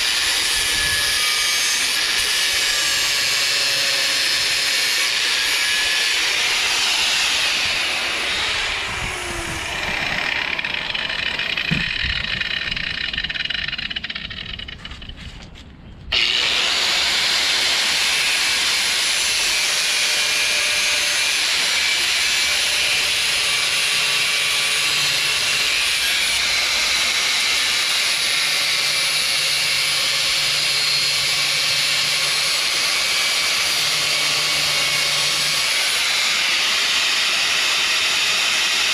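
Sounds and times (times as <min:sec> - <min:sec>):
angle grinder cutting steel: 0:00.0 - 0:15.2, 0:16.1 - 0:38.9.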